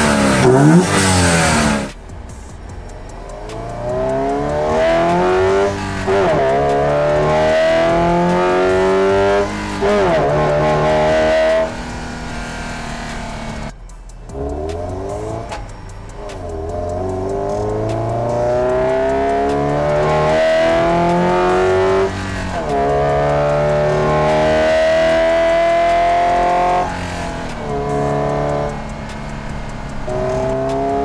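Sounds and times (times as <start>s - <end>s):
car engine intake accelerating: 0.0s - 31.0s.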